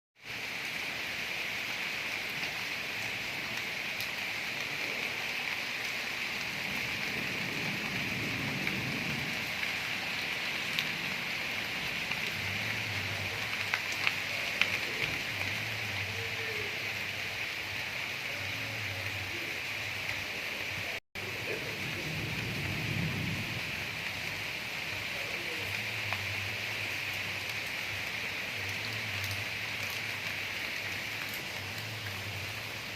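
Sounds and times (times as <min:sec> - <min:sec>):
steady rain falling: 0:00.2 - 0:32.9.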